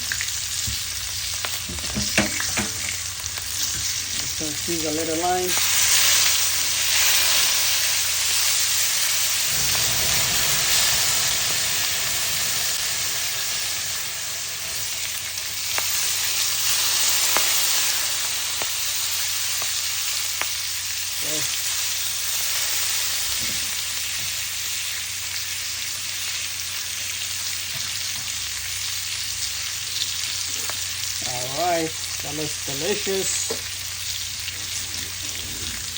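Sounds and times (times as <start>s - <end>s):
fish sizzling on a grill: 0.0s - 35.9s.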